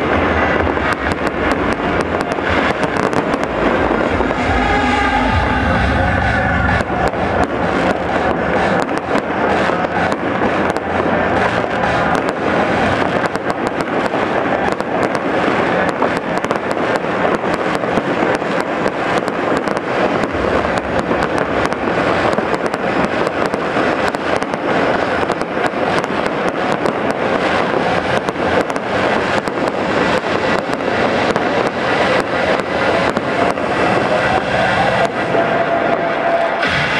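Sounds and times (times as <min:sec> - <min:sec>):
fireworks bursts and crackling: 0:00.0 - 0:36.9.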